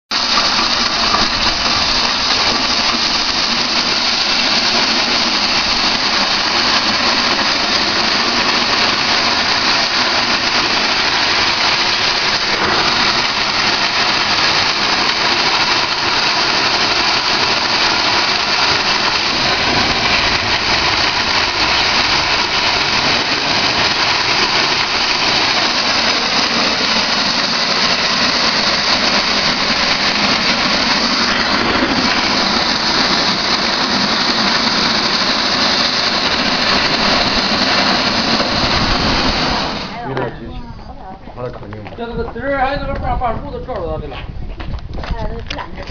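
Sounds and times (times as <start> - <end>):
thresher machine running: 0.0 - 40.4.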